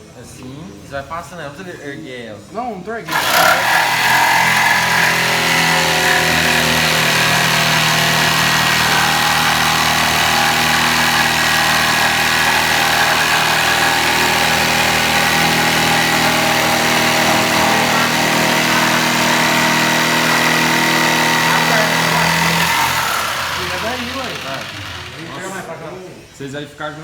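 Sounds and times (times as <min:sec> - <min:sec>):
motor running steadily: 0:03.1 - 0:25.8.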